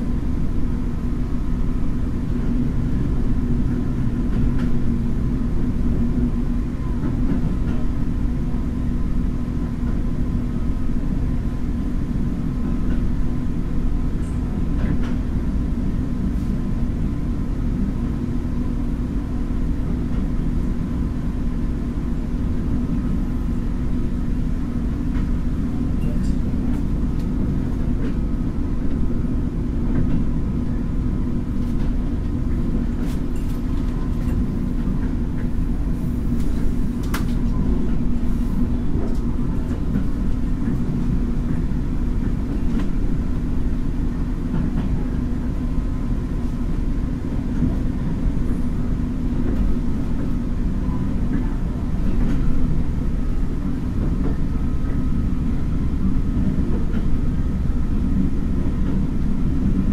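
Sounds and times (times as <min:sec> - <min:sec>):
railcar engine and wheels rumble: 0:00.0 - 0:59.9.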